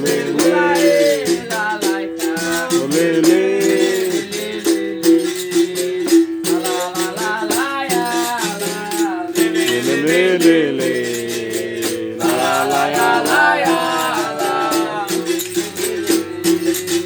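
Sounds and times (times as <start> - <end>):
shaker rattle: 0.0 - 17.0.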